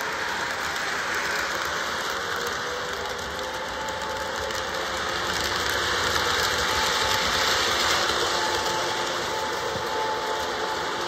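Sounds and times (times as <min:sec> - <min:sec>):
model trains running on track: 0:00.0 - 0:11.0.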